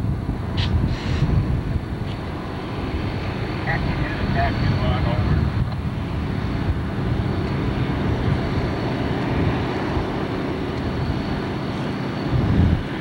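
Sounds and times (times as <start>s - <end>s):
diesel locomotive rumbling: 0.0s - 13.0s.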